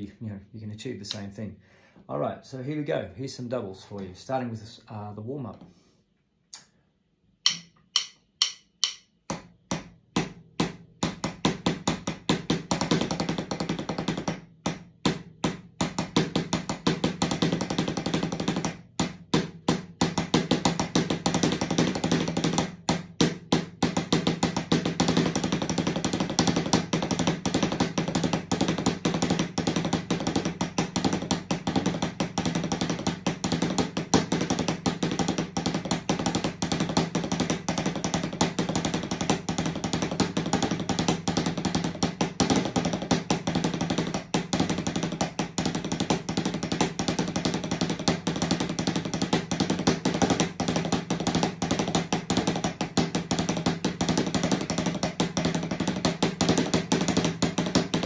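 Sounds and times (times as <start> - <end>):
drumsticks on a practice pad: 6.5 - 58.0.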